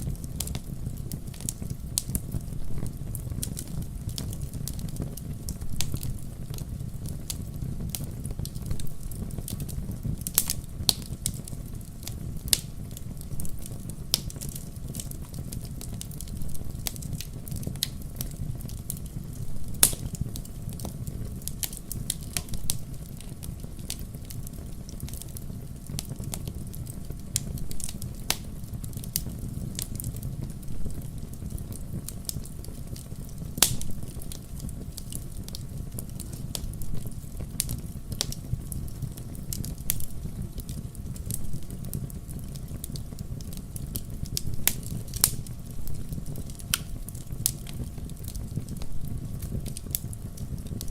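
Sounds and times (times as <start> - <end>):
logs crackling and popping: 0.0 - 50.9
low rumble of flames: 0.0 - 50.9.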